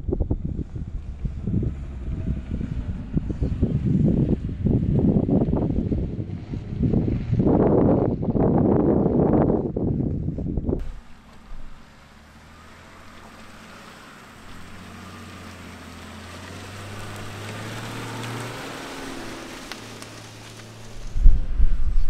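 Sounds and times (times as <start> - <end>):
vehicle engine running at low revs: 0.0 - 22.0.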